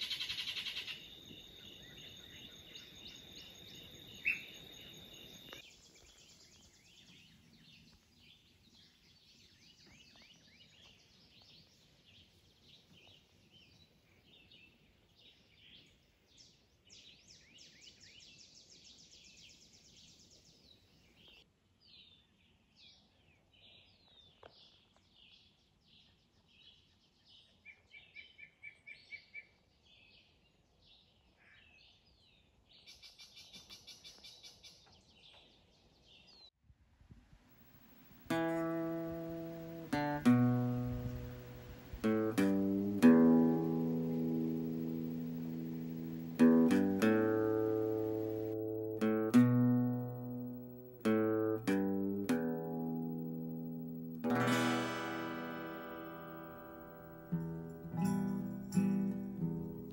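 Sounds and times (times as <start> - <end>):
small birds chirping: 0.0 - 28.1, 37.7 - 59.9.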